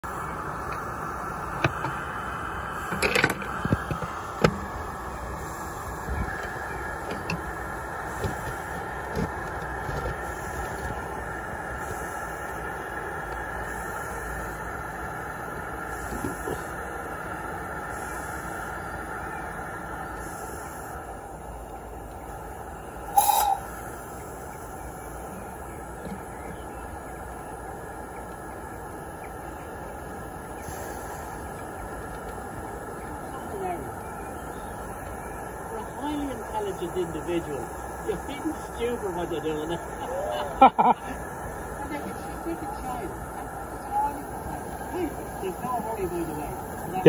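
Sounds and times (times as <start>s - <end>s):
steam locomotive rushing: 0.0s - 47.0s.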